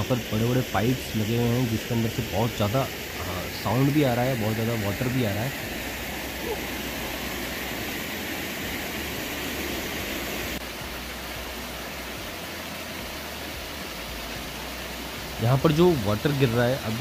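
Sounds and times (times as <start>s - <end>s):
water gushing onto rocks: 0.0s - 17.0s.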